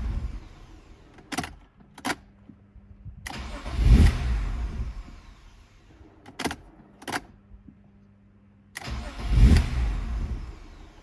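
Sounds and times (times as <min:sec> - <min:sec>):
car engine cranking and catching: 0:00.0 - 0:07.9, 0:08.7 - 0:11.0.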